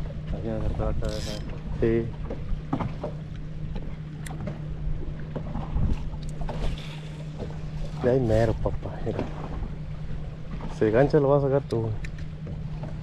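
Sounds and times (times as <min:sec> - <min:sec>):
low motor hum: 0:00.0 - 0:13.0
water noise: 0:00.0 - 0:13.0
wind: 0:00.0 - 0:13.0.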